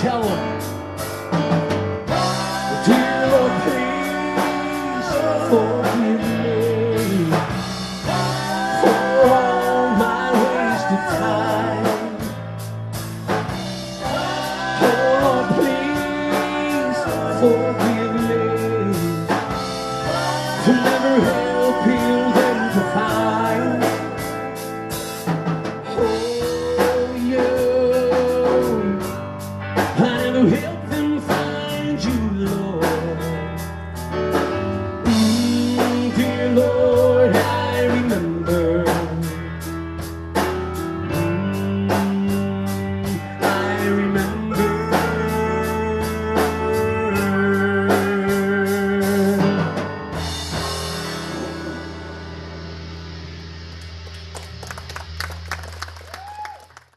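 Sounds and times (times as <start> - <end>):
steady drum beat: 0.0 - 55.1
bass: 0.0 - 56.9.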